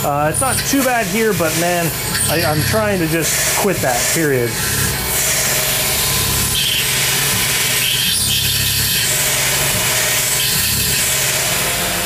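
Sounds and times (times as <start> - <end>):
milling machine cutting metal: 0.0 - 12.0.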